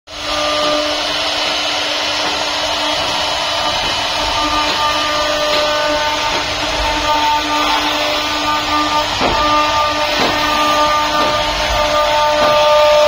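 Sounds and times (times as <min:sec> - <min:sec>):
cnc router cutting hiss and whine: 0:00.1 - 0:13.0.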